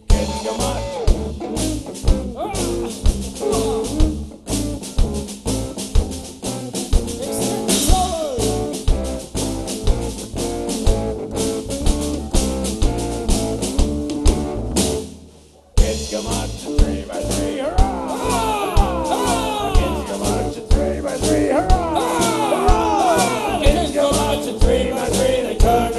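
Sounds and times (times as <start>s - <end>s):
live band playing: 0.0s - 25.9s.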